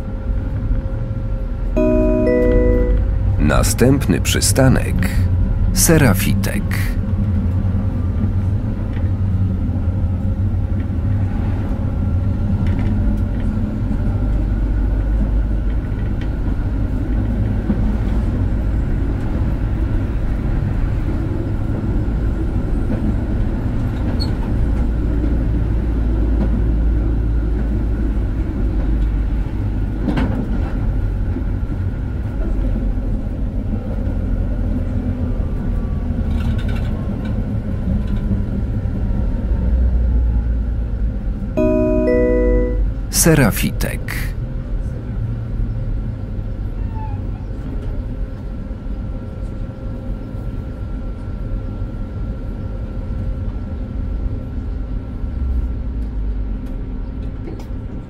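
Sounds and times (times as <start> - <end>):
tram rumbling along track: 0.0 - 41.4, 44.4 - 58.0.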